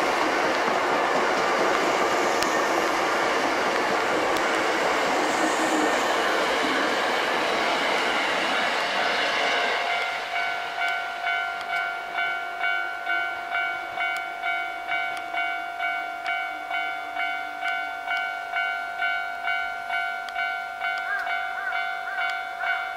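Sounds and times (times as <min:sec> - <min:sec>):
electric train running: 0:00.0 - 0:22.9
level-crossing warning bell ringing: 0:00.0 - 0:22.9.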